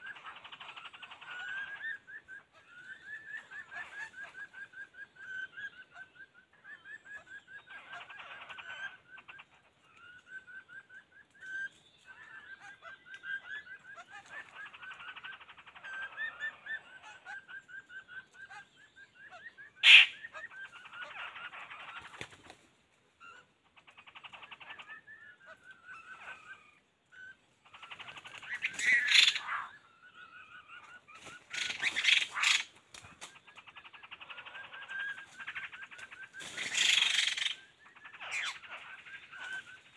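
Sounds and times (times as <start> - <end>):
birds calling in short notes: 0.0 - 39.9.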